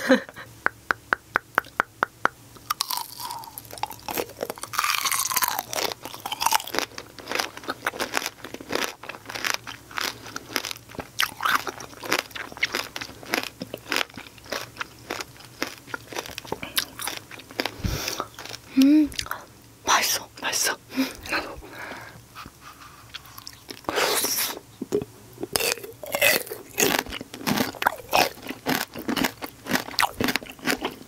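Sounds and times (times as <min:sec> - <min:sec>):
crunching and chewing candied fruit: 0:02.6 - 0:31.0.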